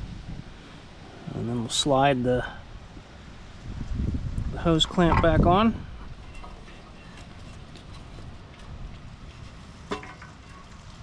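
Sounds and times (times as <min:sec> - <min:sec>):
wind noise on microphone: 0:00.0 - 0:01.6, 0:02.6 - 0:11.0.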